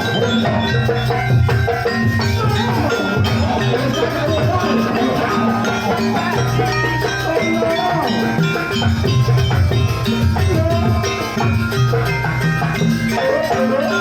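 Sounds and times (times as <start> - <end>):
gamelan music with drums and gongs: 0.0 - 14.0.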